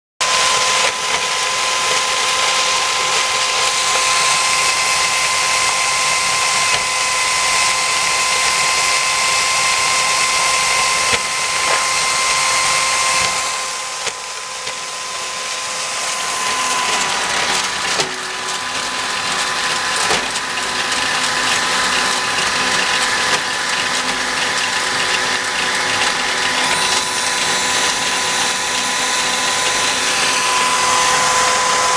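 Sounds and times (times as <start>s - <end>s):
electric drill motor whine: 0.2s - 31.9s.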